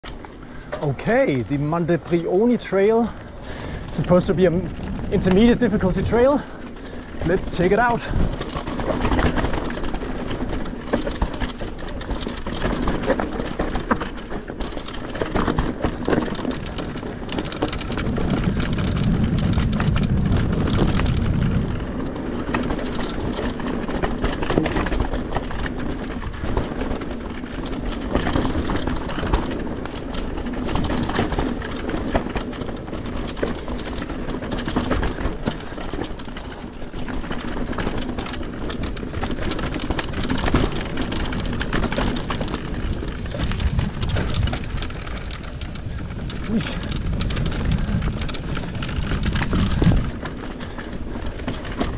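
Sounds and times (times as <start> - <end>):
bike rattling: 0.0 - 51.9
tyres crunching over gravel: 0.0 - 51.9.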